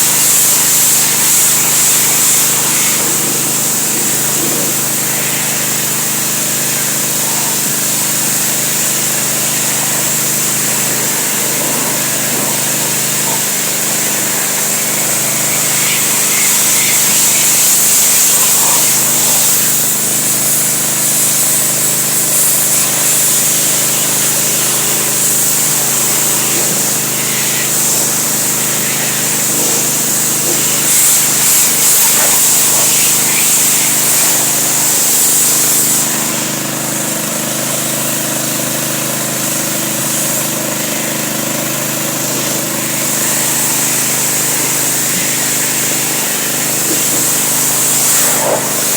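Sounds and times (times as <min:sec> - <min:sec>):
small motor hissing and humming: 0:00.0 - 0:48.9.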